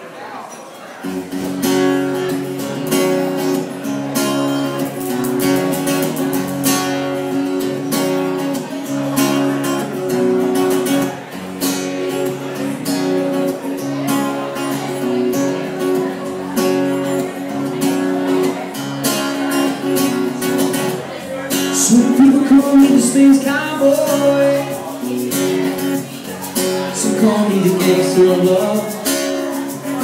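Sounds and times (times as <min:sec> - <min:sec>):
acoustic guitar strumming: 0:01.0 - 0:30.0.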